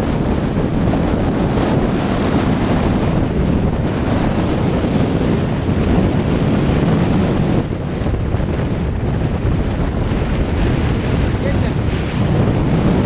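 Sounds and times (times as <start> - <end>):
choppy water rushing: 0.0 - 13.0
wind buffeting microphone: 0.0 - 13.0.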